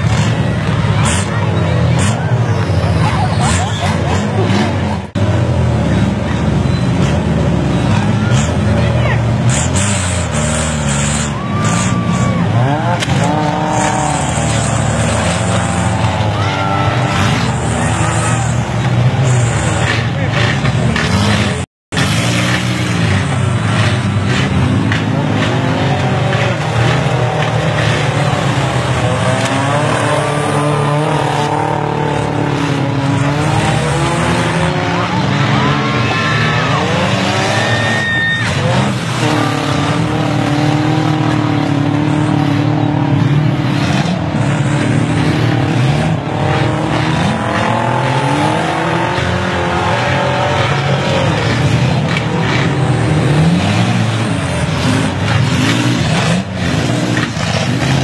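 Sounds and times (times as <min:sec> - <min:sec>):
car engines revving: 0:00.0 - 0:58.0
cars crashing: 0:00.0 - 0:58.0.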